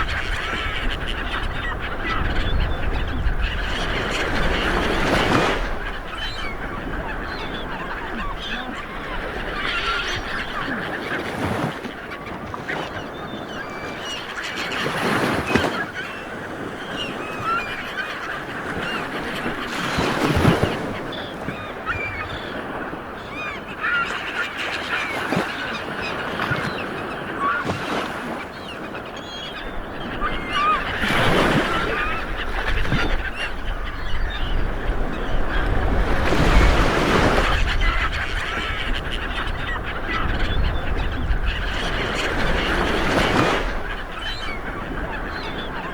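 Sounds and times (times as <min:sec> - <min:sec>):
birds chirping: 0:00.0 - 0:45.9
sea waves breaking on shore: 0:00.0 - 0:45.9.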